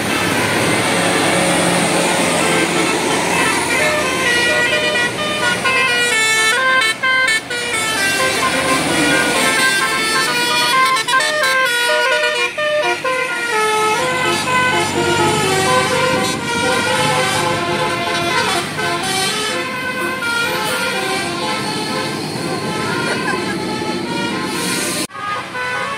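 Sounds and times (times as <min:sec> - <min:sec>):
bus melody horn tune: 0:00.0 - 0:25.9
bus running noise: 0:00.0 - 0:25.9.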